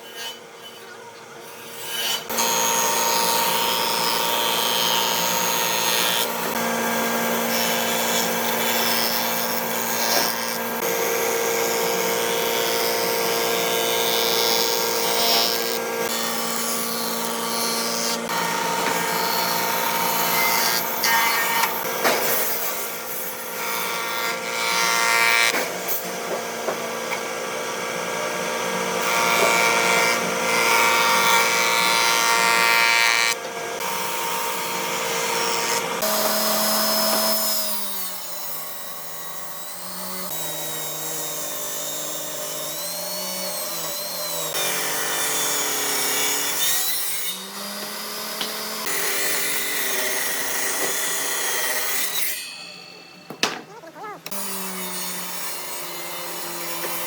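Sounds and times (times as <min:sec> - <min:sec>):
power tools working wood: 0:00.2 - 0:57.0.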